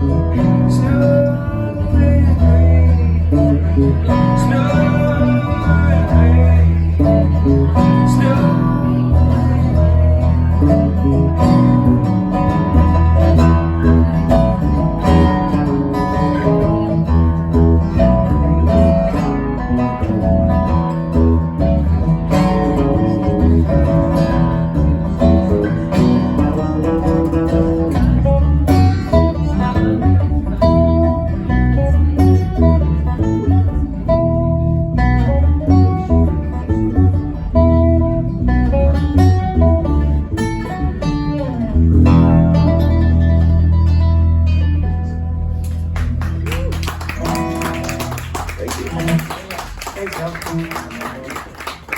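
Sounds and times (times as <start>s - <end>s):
bass line: 0.0s - 49.3s
guitar: 0.0s - 51.9s.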